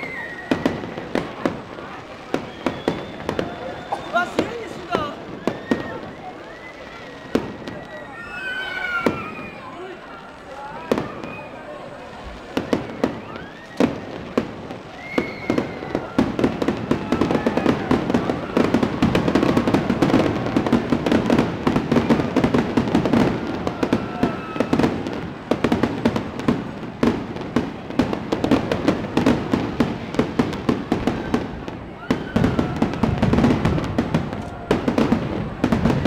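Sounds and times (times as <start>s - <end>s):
whistling rockets: 0.0s - 10.0s, 10.7s - 36.0s
fireworks bangs and crackles: 0.0s - 36.0s.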